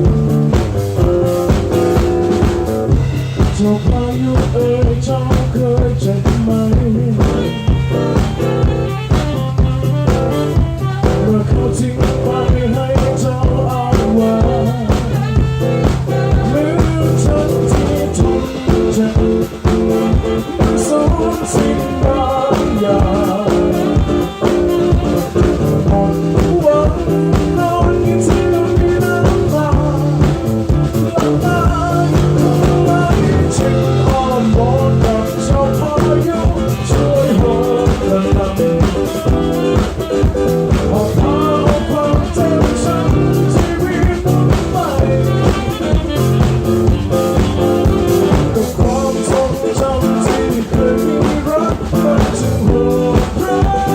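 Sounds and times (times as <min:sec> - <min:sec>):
instrumental band music: 0:00.0 - 0:53.9.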